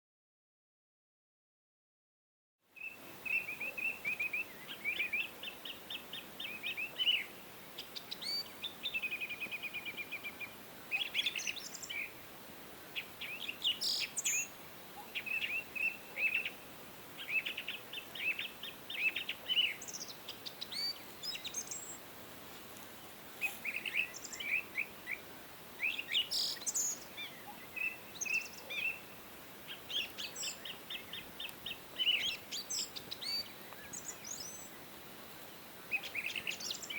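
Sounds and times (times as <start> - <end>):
songbirds singing and chirping: 2.7 - 36.9.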